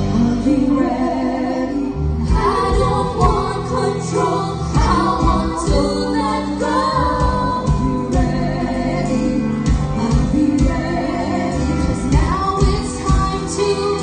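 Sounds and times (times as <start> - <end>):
live band music with guitars: 0.0 - 14.0.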